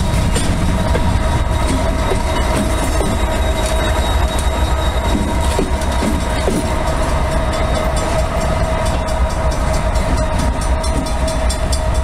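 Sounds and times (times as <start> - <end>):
freight train rumbling past: 0.0 - 12.0
wheel noise on rails: 0.0 - 12.0.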